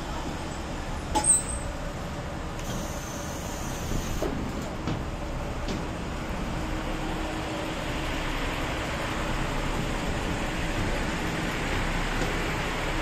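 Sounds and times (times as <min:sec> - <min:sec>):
diesel railcar engine idling: 0:00.0 - 0:13.0.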